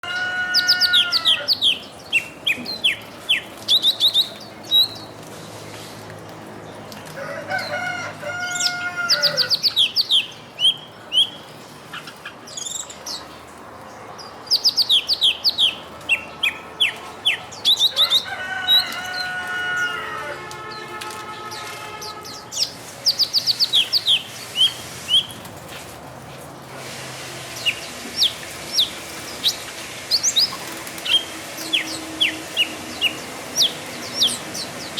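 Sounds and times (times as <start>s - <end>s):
birds chirping: 0.0s - 26.0s, 27.0s - 34.9s.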